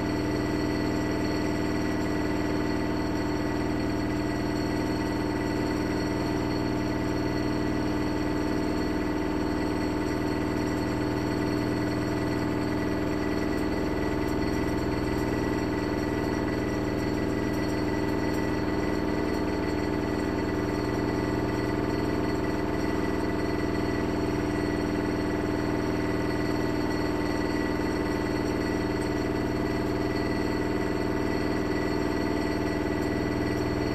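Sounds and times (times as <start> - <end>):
washing machine motor whine and hum: 0.0 - 33.9.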